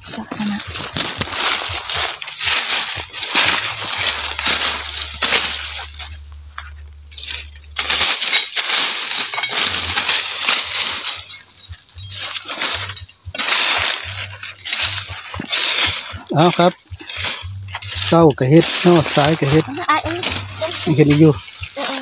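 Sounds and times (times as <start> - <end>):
dry leaves rustling: 0.0 - 22.0
metal tool scraping into soil: 0.8 - 22.0.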